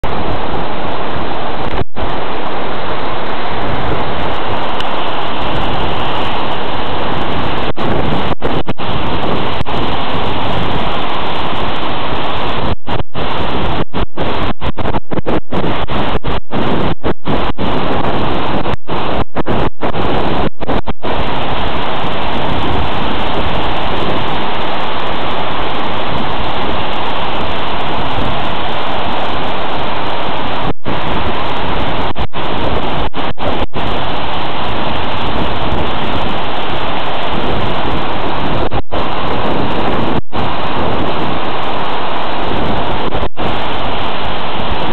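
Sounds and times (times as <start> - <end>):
waterfall rushing roar: 0.0 - 44.9.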